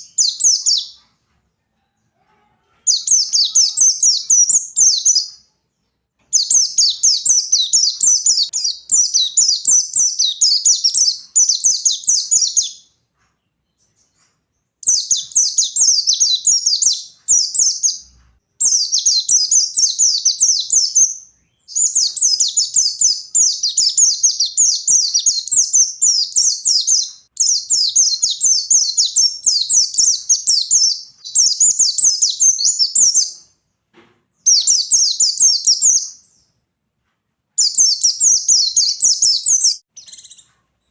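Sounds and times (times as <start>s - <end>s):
bird twittering song: 0.0s - 1.0s, 2.9s - 5.5s, 6.2s - 33.6s, 34.4s - 36.6s, 37.6s - 40.9s.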